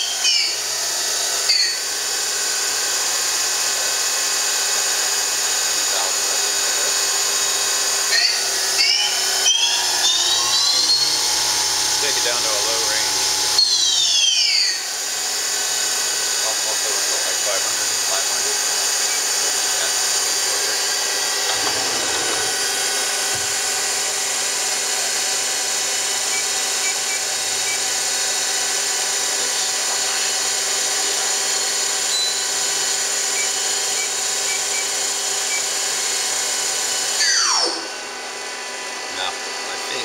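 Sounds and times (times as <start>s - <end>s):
machine spindle whine: 0.0s - 40.0s.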